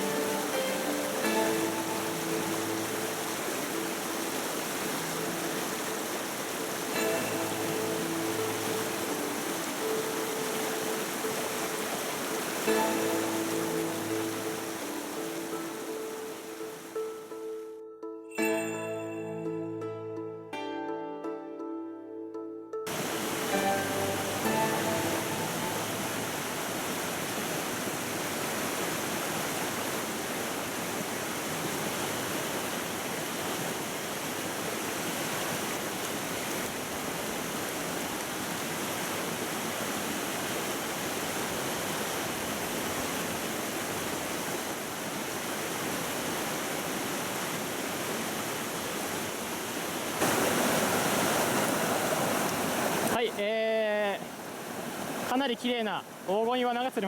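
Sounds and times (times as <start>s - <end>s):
stream water rushing over rocks: 0.0s - 17.3s, 22.9s - 57.0s.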